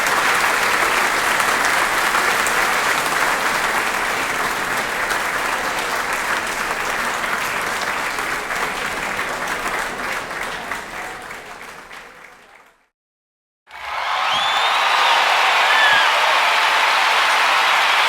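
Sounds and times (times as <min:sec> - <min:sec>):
audience applause: 0:00.0 - 0:12.8, 0:13.7 - 0:18.0.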